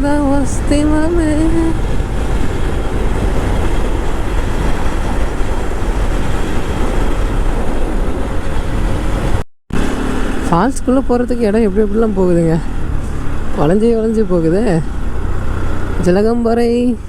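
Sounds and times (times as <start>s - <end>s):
wind rushing: 0.0s - 16.1s
motorcycle engine running: 0.0s - 17.0s
road noise: 0.0s - 17.0s.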